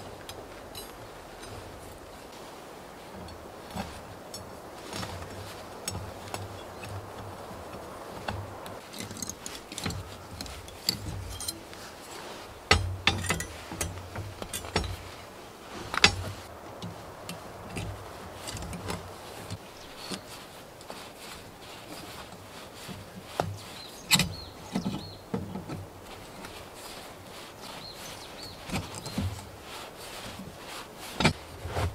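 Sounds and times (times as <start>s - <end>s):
wire twisting clicks and scrapes: 3.1s - 16.5s, 17.2s - 31.9s.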